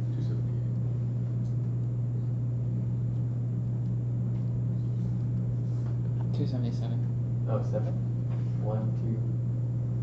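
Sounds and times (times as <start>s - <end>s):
room background hum: 0.0s - 10.0s.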